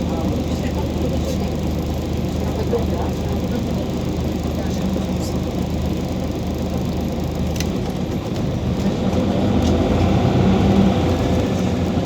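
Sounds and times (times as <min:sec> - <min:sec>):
bus diesel engine humming: 0:00.0 - 0:12.0.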